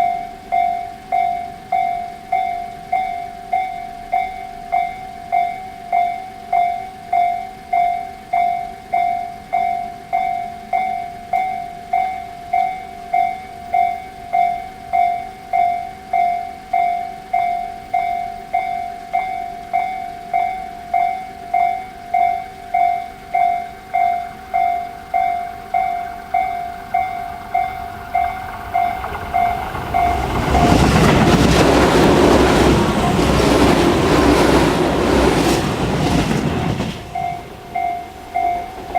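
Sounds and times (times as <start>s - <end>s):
level crossing warning bell: 0.0s - 38.9s
train passing: 0.0s - 38.9s.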